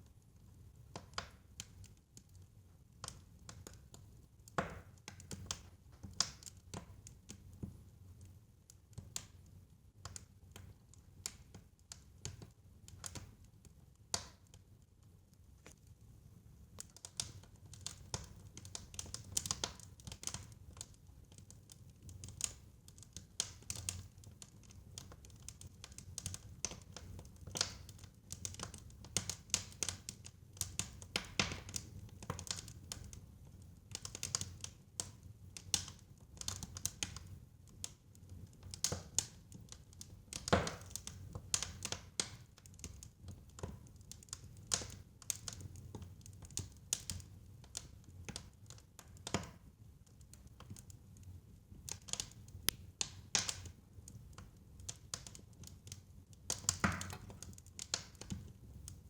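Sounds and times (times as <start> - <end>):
wood fire crackling: 0.2 - 59.0.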